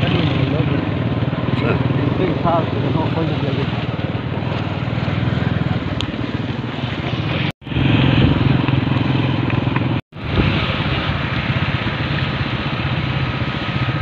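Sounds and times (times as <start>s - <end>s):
motorcycle engine running: 0.0s - 14.0s
wind rushing over microphone: 0.7s - 14.0s.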